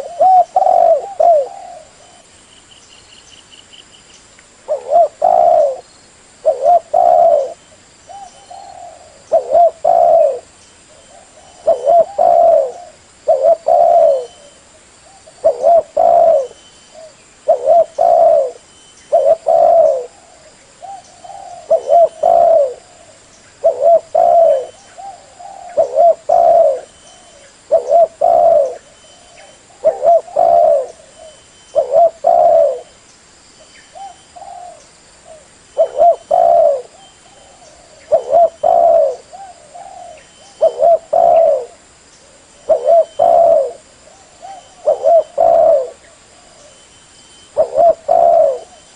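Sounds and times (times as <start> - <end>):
dove cooing: 0.0 - 2.3, 4.6 - 5.8, 6.4 - 33.0, 33.9 - 48.9.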